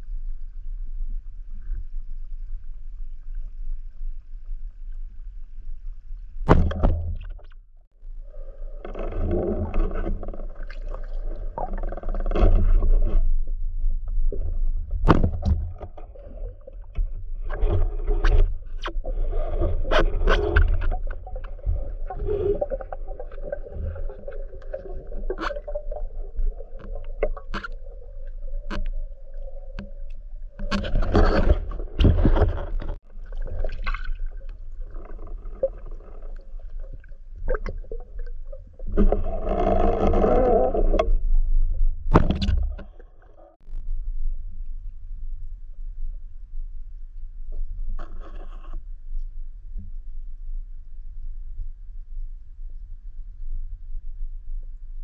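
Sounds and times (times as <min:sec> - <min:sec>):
underwater rumble of moving water: 0:00.0 - 0:55.0.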